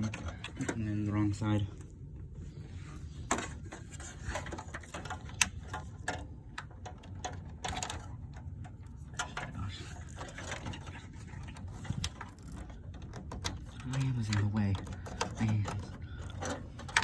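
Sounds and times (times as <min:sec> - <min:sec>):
cables and connectors rattling: 0:00.0 - 0:02.3, 0:03.0 - 0:17.0.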